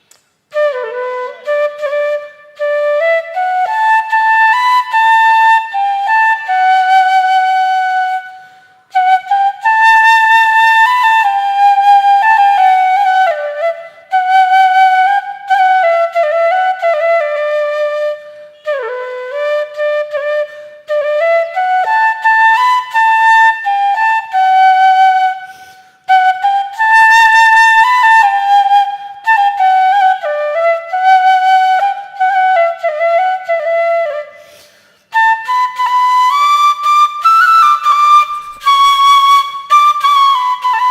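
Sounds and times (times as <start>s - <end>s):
solo flute melody: 0.4s - 40.9s.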